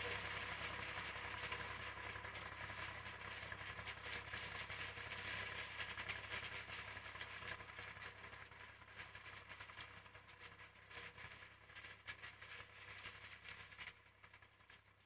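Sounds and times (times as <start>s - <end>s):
forage harvester rattling: 0.0s - 15.0s
tractor engine hum: 0.0s - 15.0s.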